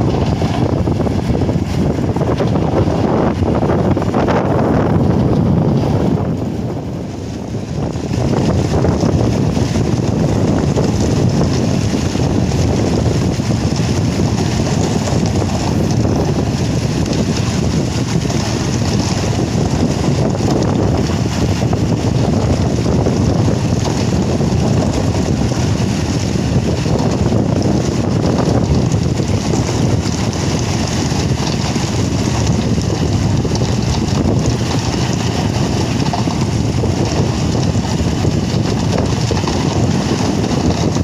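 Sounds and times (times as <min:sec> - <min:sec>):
concrete mixer truck rumbling: 0:00.0 - 0:41.0
wind on microphone: 0:00.0 - 0:41.0.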